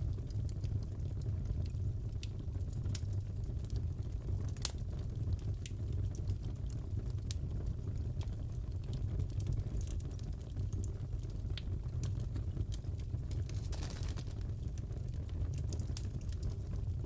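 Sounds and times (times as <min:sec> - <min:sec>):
burning logs rumbling: 0:00.0 - 0:17.0
fire popping and crackling: 0:00.0 - 0:17.0.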